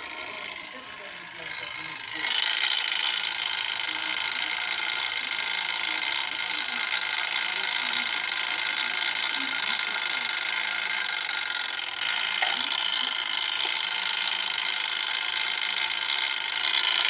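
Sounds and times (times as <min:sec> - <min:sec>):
clockwork whirring: 0:00.0 - 0:17.0.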